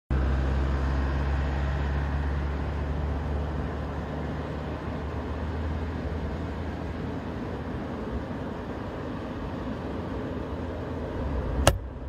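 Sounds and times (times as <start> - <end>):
low mechanical rumble with hiss: 0.2 - 12.0.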